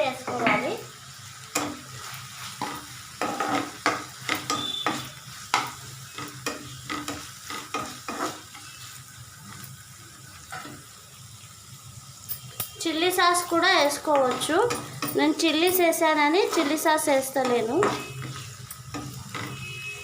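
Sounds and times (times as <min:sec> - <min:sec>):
light sizzle: 0:00.0 - 0:20.0
spoon stirring and scraping pan: 0:01.4 - 0:10.9, 0:12.8 - 0:20.0.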